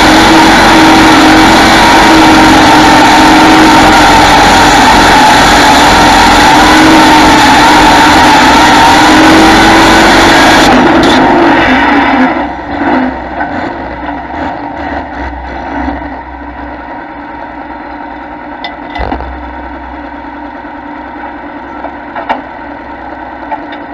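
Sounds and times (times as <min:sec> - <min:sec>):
tractor engine at full throttle: 0:00.0 - 0:23.9.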